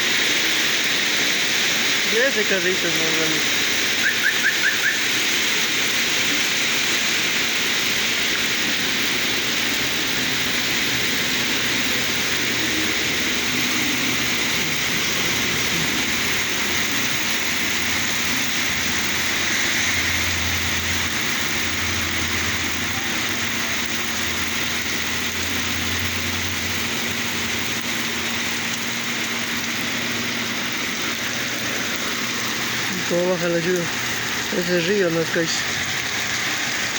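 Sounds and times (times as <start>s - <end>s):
heavy rain: 0.0s - 36.9s
vehicle engine rumble: 6.2s - 36.9s.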